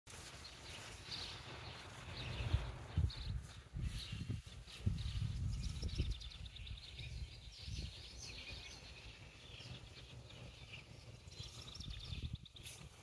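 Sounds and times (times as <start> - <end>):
small birds twittering: 0.2 - 13.0.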